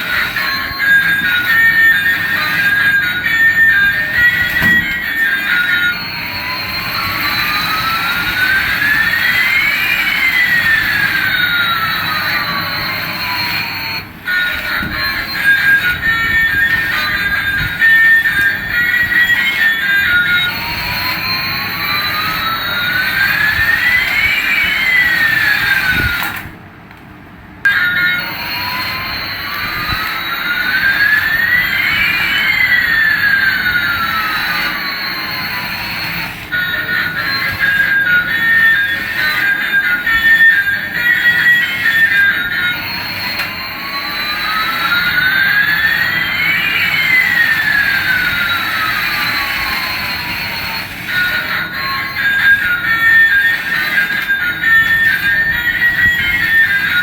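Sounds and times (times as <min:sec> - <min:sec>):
toy jet engine whine: 0:00.0 - 0:26.6, 0:27.6 - 0:57.0.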